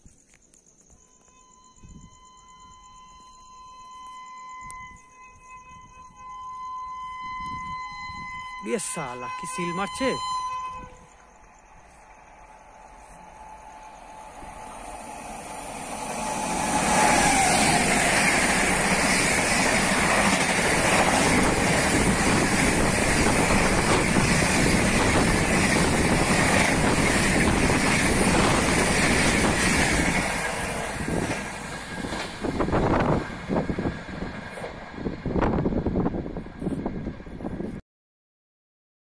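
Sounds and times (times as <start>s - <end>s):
express train passing at speed: 1.4s - 37.8s.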